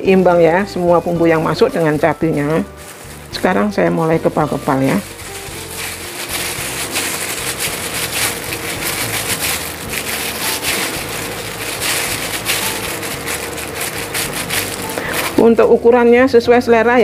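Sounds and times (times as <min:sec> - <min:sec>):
plastic glove crinkling: 0:00.0 - 0:17.0.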